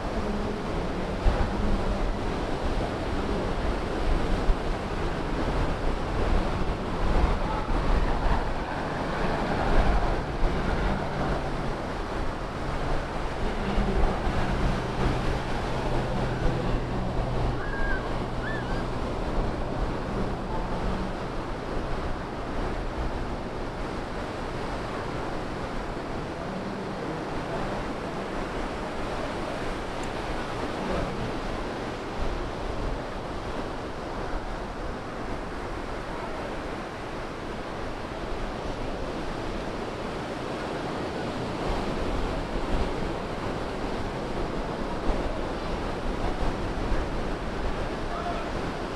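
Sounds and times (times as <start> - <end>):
surf breaking on beach: 0.0 - 48.9
wind on microphone: 0.0 - 48.9.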